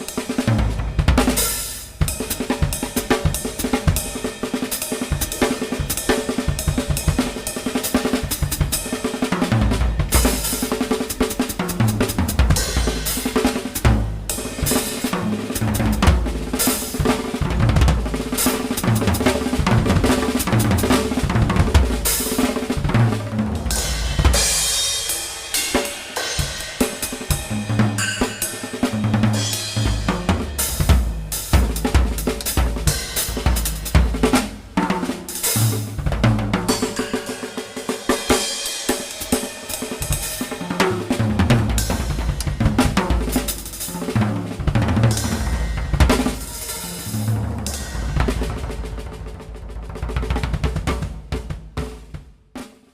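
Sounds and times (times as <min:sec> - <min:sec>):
drum kit groove: 0:00.0 - 0:52.9.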